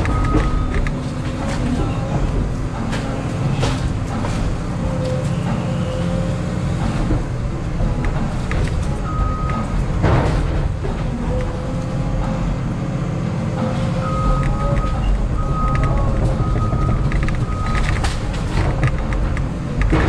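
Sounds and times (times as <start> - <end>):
excavator diesel engine: 0.0 - 20.0
hydraulic whine: 0.0 - 20.0
wood and roots crackling: 0.0 - 20.0.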